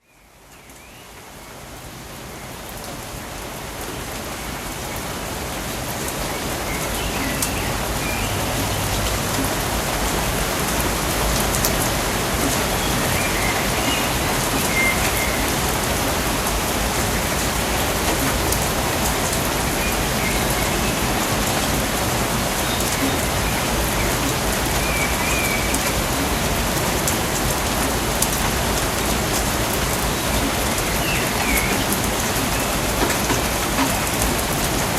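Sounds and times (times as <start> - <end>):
rain pattering on foliage: 0.2 - 34.9.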